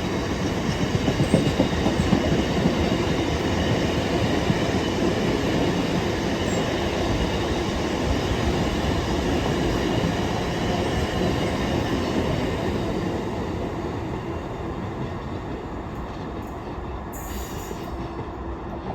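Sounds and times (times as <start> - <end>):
freight train rolling past: 0.0 - 18.9.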